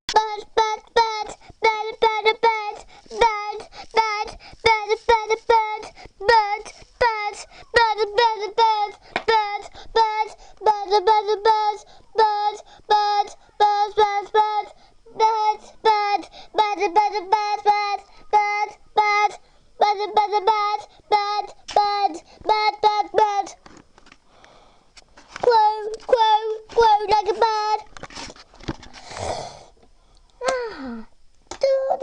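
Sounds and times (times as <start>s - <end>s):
child singing wordless tune: 0.1s - 23.6s, 25.4s - 27.9s.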